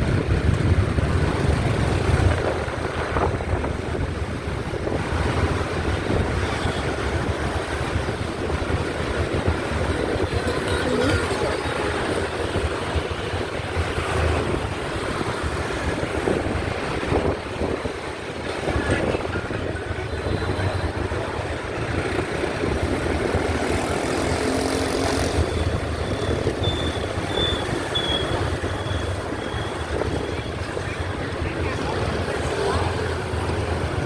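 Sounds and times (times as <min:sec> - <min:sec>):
motorbike engine hum: 0:00.0 - 0:34.0
road noise: 0:00.0 - 0:34.0
wind: 0:00.0 - 0:34.0.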